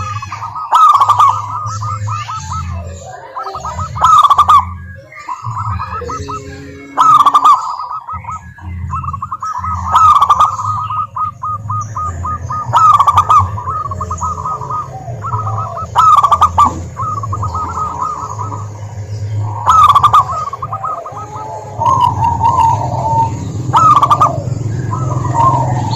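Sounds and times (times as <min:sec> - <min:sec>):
doves cooing: 0:00.0 - 0:25.9.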